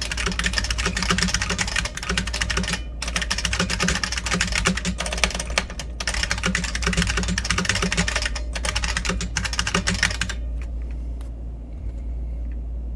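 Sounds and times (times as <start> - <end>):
fast typing on mechanical keyboard: 0.0 - 10.4
steady low hum: 0.0 - 12.9.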